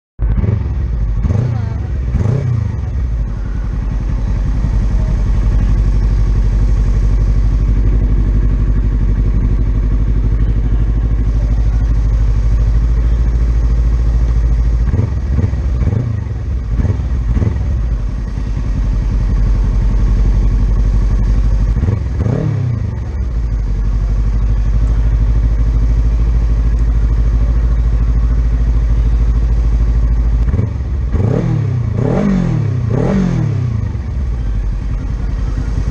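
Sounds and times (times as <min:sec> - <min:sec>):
racing motorcycle engine revving: 0:00.2 - 0:35.9.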